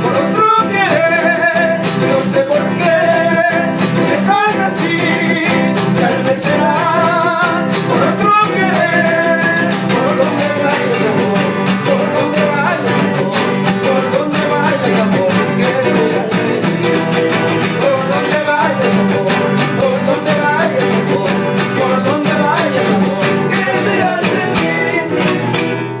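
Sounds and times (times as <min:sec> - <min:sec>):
guitar and bass accompaniment: 0:00.0 - 0:26.0
guitar melody: 0:00.0 - 0:26.0.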